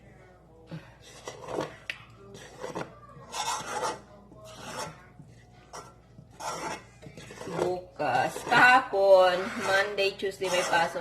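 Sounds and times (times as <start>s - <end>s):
spatula scraping a pan: 1.0s - 11.0s.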